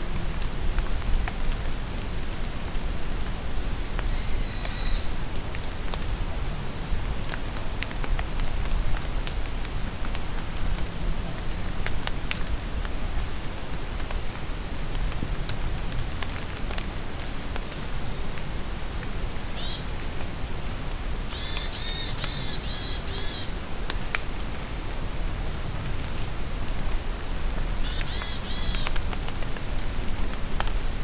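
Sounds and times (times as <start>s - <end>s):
rain in a forest: 0.0s - 31.0s.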